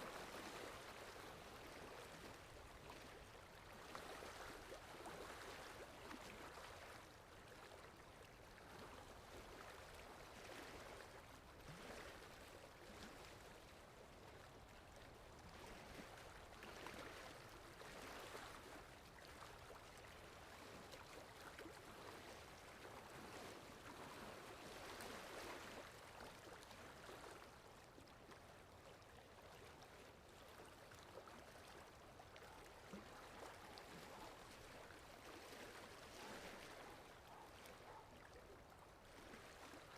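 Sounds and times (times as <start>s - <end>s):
faint sea waves washing in: 0.0s - 39.9s.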